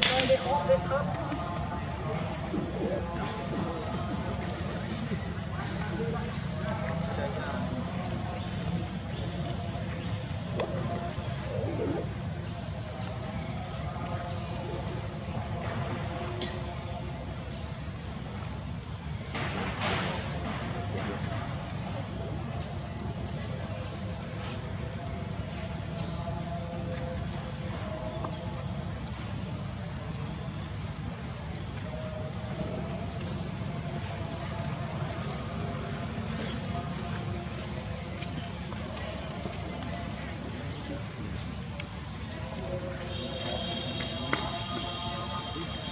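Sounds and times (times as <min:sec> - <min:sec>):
insects chirping drone: 0:00.0 - 0:45.9.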